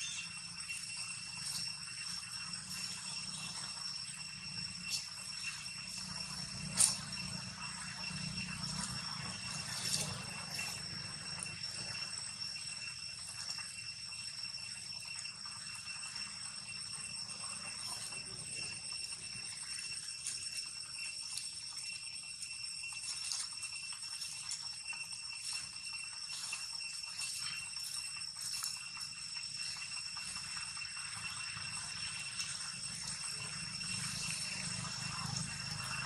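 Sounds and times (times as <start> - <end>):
insect trilling: 0.0 - 36.0.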